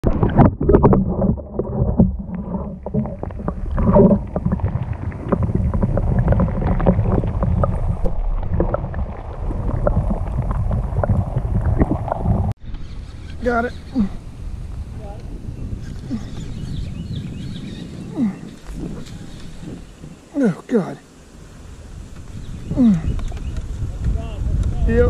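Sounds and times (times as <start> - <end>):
wind rumbling on microphone: 0.0 - 20.4, 21.0 - 25.0.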